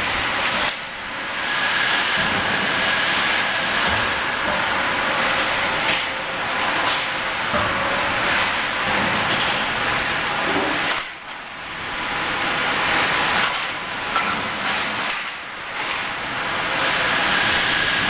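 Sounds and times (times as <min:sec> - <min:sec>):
steel mill industrial din: 0:00.0 - 0:18.0.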